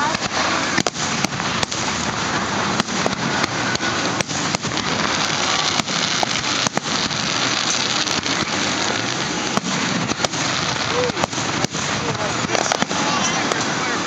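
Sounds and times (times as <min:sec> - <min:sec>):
firework shells bursting: 0:00.0 - 0:14.0
fireworks crackling hiss: 0:00.0 - 0:14.0.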